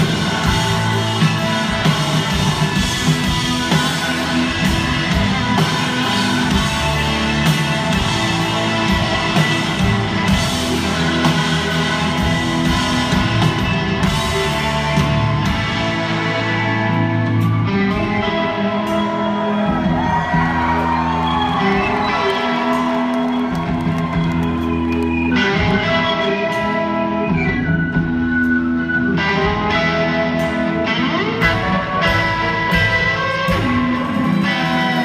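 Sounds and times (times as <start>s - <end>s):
drum kit: 0.0s - 35.0s
electric guitars: 0.0s - 35.0s.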